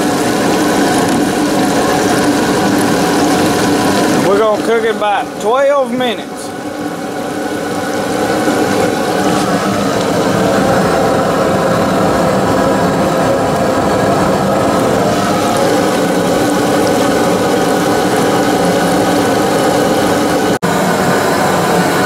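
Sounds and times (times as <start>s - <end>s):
oil bubbling and sizzling: 0.0s - 22.0s
steady hum: 0.0s - 22.0s.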